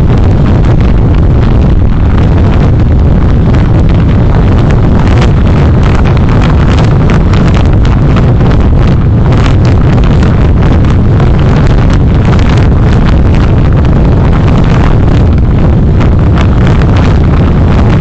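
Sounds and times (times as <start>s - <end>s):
microphone crackling: 0.0s - 18.0s
road and engine rumble: 0.0s - 18.0s
wind buffeting microphone: 0.0s - 18.0s.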